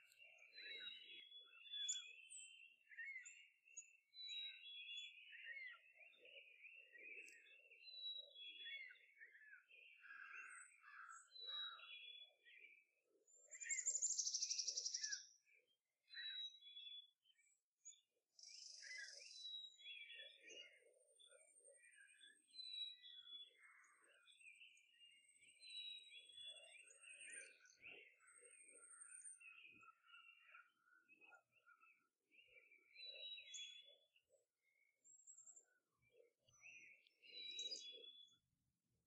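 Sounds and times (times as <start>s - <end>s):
birds chirping and singing: 0.0s - 38.4s.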